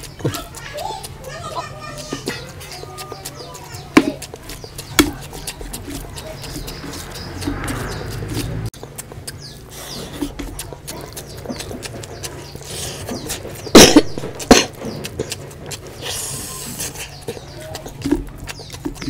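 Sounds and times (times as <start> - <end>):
fingers squelching through rice: 0.0 - 19.0
wet chewing and lip-smacking: 0.0 - 19.0.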